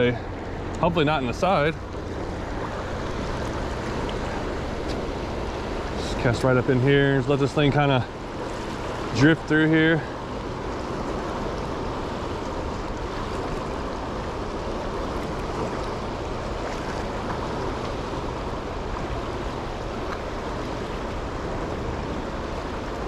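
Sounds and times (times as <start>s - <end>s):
river rushing over rapids: 0.0s - 23.0s.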